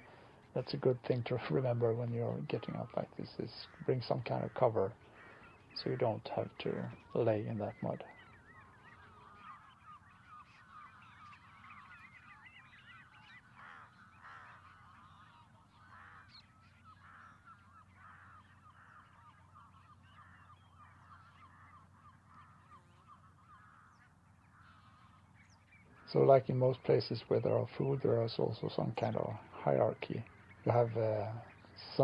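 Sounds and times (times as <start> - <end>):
flock of birds calling: 0.0 - 32.0.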